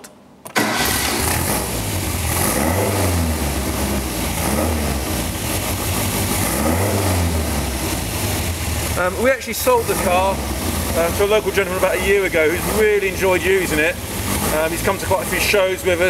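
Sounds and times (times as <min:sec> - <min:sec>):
car engine revving: 0:00.6 - 0:16.0.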